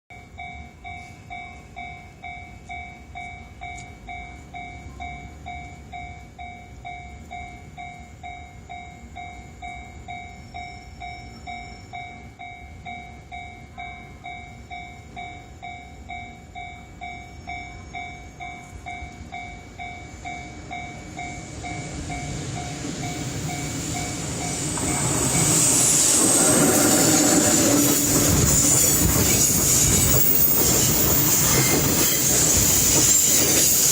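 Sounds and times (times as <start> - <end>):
freight train passing: 0.2 - 33.9.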